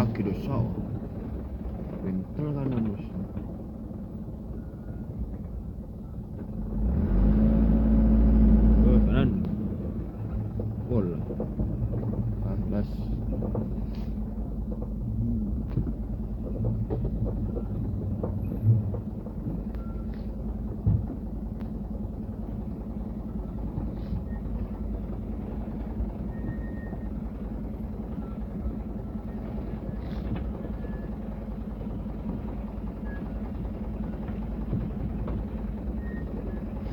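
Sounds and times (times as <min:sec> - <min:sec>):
truck engine idling: 0:00.0 - 0:36.9.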